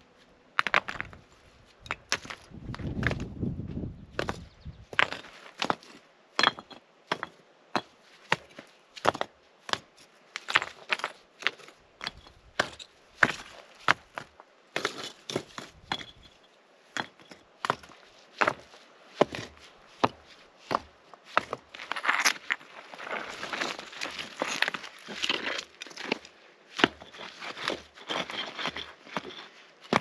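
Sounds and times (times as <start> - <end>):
rocks knocking and clinking: 0.6 - 3.3, 4.1 - 30.0.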